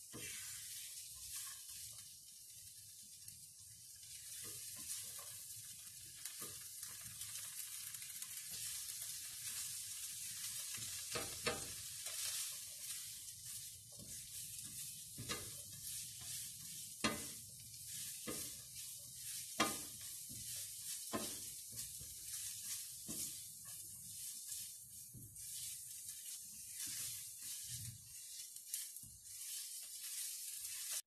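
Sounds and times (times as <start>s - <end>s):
spatula scraping a pan: 0.0s - 31.0s
vegetables sizzling in a frying pan: 0.0s - 31.0s.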